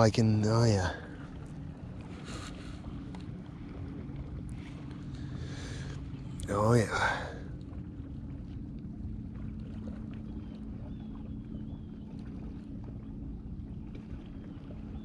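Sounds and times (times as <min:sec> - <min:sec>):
constant low hum: 0:00.0 - 0:15.0
water: 0:00.0 - 0:15.0
wind: 0:00.0 - 0:15.0.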